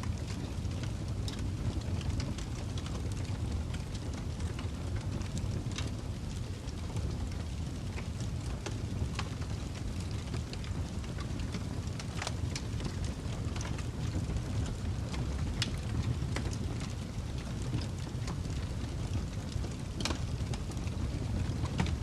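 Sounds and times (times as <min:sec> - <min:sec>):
fireplace crackling: 0:00.0 - 0:22.0.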